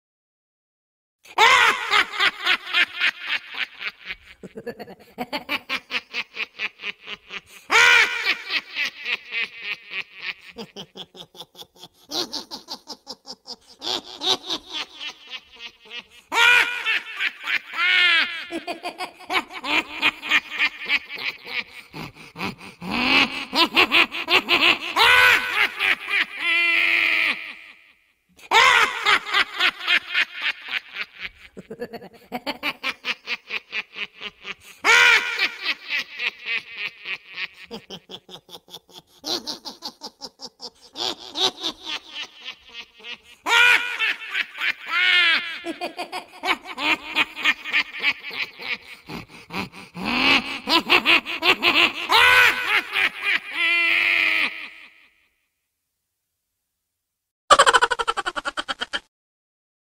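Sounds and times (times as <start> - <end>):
high-pitched rhythmic laughter: 1.3 - 55.2, 57.5 - 59.1.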